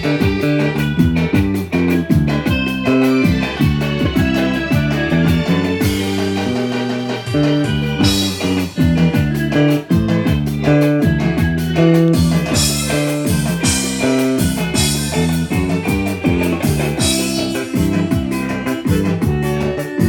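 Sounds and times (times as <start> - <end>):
drums with cymbals: 0.0 - 20.0
plucked guitar notes: 0.0 - 20.0.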